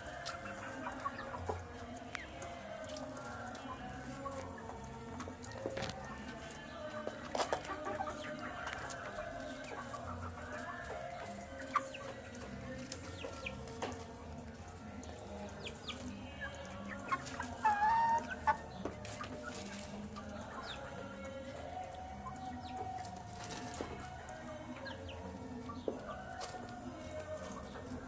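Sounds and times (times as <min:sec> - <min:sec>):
chicks clucking and peeping: 0:00.0 - 0:28.0.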